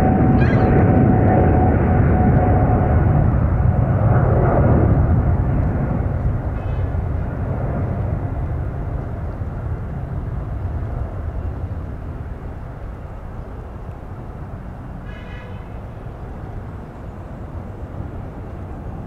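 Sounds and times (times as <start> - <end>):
jet engines deep rumble: 0.0 - 19.0.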